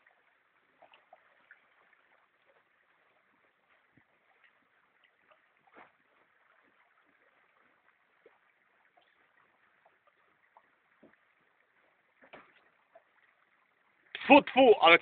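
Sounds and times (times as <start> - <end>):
water lapping against boat hull: 0.0 - 14.6.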